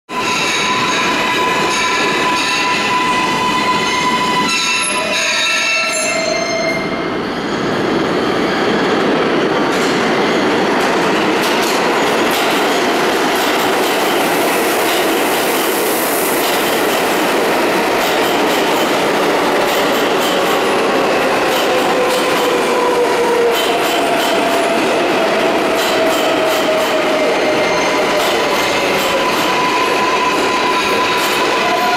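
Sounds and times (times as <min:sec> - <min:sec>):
subway train pulling into station: 0:00.1 - 0:31.9
wheel and rail rushing noise: 0:00.1 - 0:31.9.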